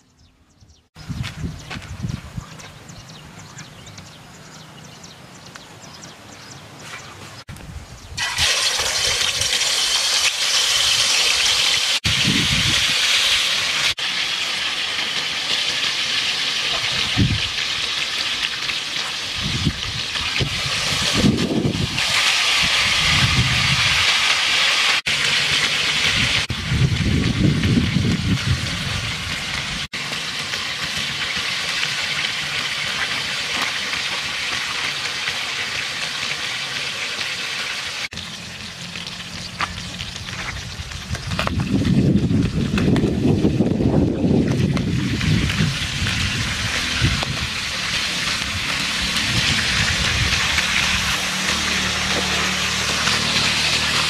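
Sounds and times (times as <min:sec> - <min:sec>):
fish sizzling in hot oil: 0:08.2 - 0:54.0.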